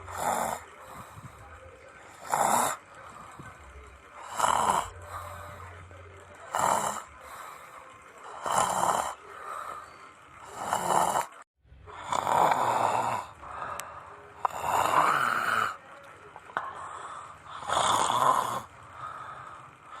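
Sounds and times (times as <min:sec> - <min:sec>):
person snoring: 0:00.0 - 0:03.6, 0:04.2 - 0:05.8, 0:06.4 - 0:15.8, 0:16.6 - 0:20.0.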